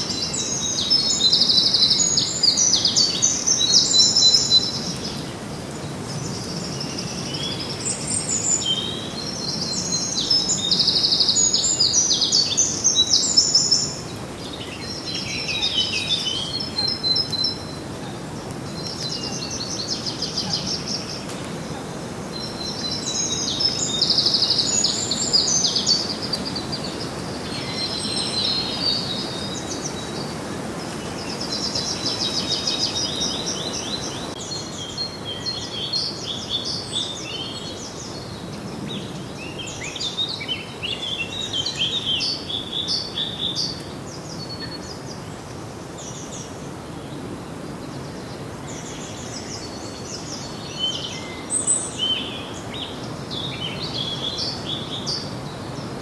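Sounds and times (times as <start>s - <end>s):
songbirds singing and chirping: 0.0s - 56.0s
steady background hiss: 0.0s - 56.0s.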